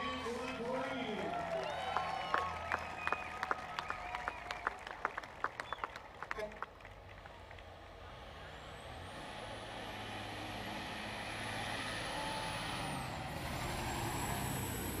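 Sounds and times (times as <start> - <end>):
truck diesel engine passing: 0.0 - 15.0.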